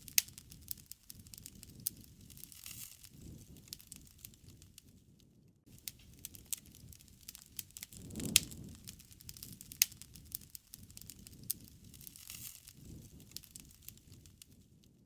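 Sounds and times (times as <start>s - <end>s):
low rush of flame: 0.0s - 5.1s, 5.7s - 15.0s
wood fire crackling and popping: 0.0s - 15.0s.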